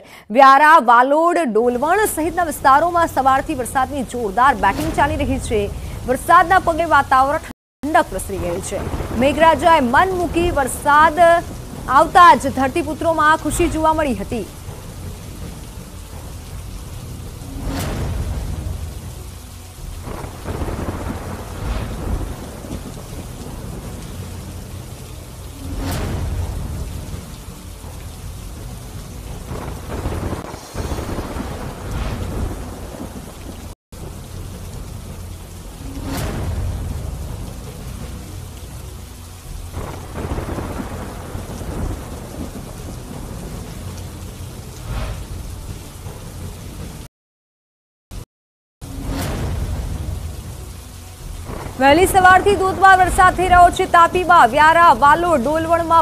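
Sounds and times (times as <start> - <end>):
heavy rain pouring: 1.8 - 47.1, 48.8 - 56.0.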